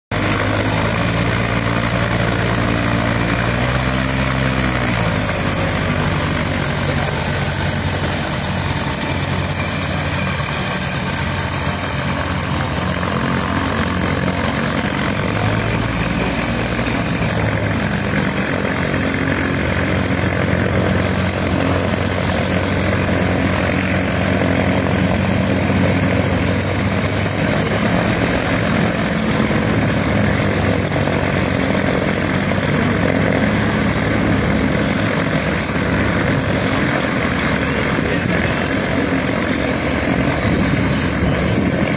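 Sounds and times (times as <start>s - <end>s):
propeller aircraft engine drone: 0.1s - 41.9s.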